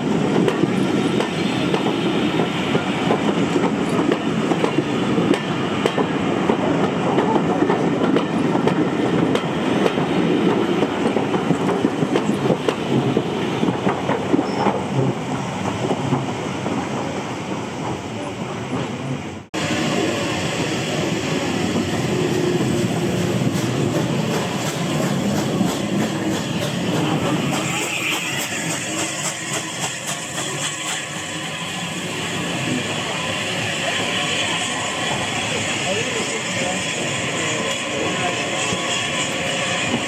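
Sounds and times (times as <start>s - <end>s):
steam train running: 0.0s - 40.0s.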